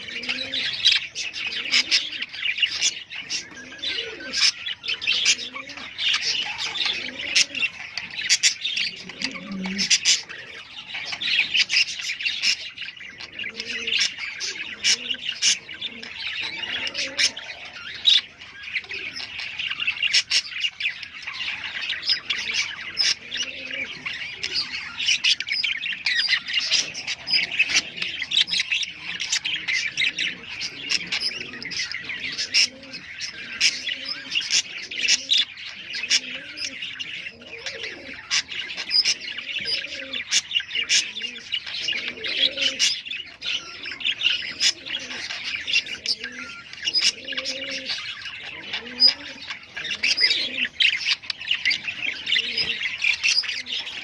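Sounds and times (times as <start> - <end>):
birds chattering and squawking: 0.0 - 54.0.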